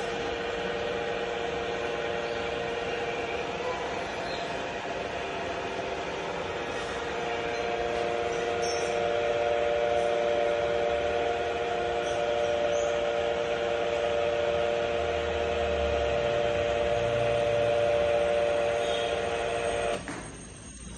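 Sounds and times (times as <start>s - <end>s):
drilling machine motor whine: 0.0s - 20.9s.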